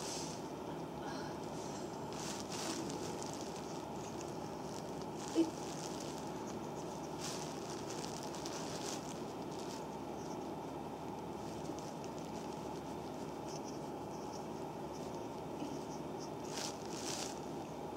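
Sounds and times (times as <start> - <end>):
steady background hum: 0.0 - 17.9
oily rubbing and squishing: 1.5 - 17.8.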